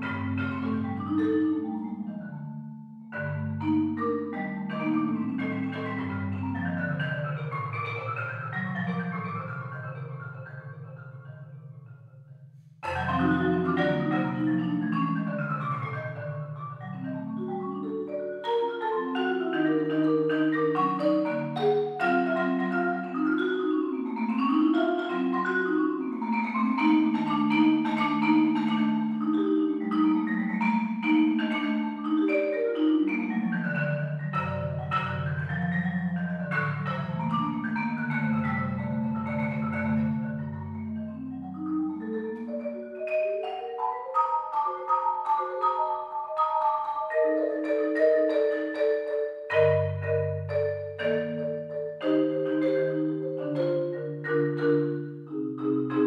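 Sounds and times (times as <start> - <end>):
marimba played with mallets: 0.0 - 56.0.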